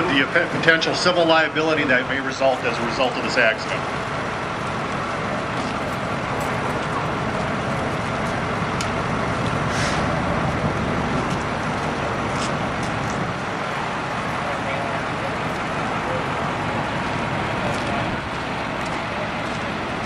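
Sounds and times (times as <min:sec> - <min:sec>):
vehicle engines idling: 0:00.0 - 0:20.0.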